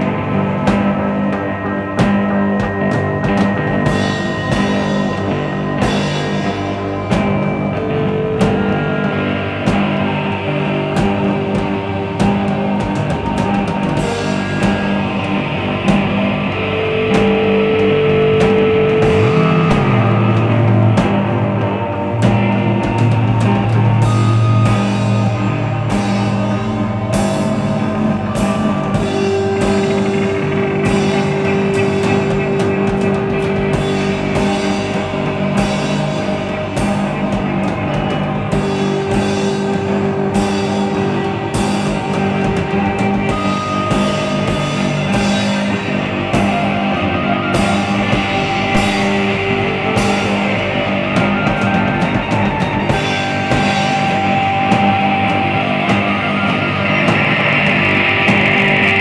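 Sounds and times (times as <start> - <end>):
drum kit steady beat: 0.0 - 59.0
electric guitars: 0.0 - 59.0.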